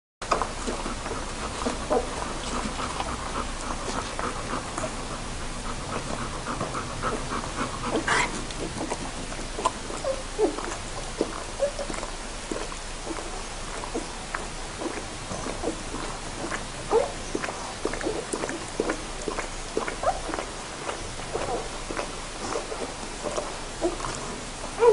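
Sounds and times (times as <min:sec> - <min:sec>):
puppies suckling and smacking: 0:00.2 - 0:24.9.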